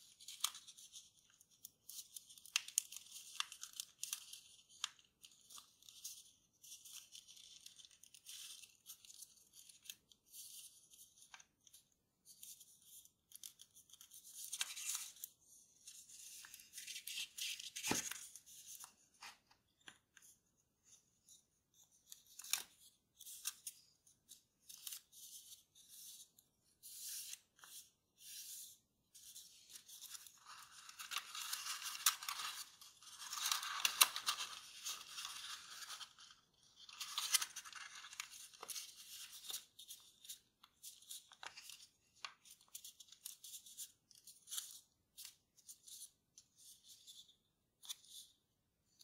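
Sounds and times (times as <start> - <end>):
paper rustling and crinkling: 0.0 - 28.6, 29.2 - 48.3.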